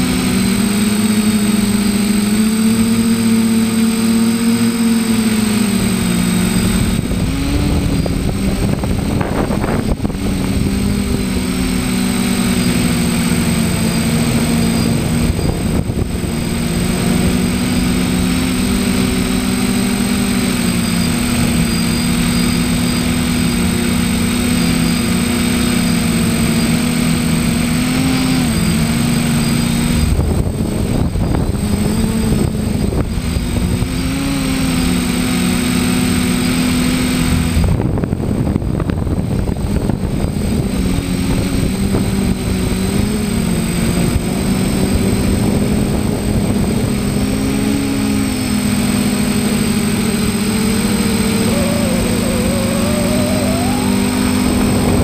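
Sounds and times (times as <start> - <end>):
drone propellers whirring: 0.0 - 55.0.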